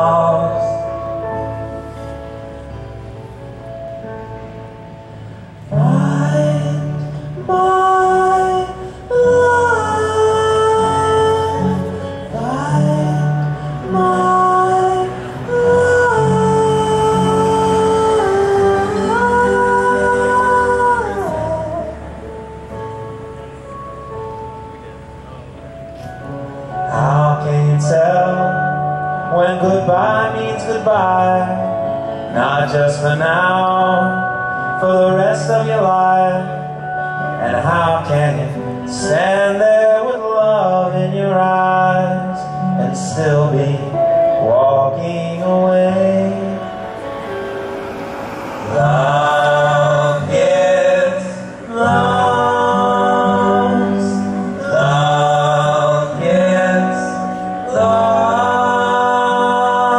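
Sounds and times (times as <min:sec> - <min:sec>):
live band playing slow instrumental: 0:00.0 - 0:59.9.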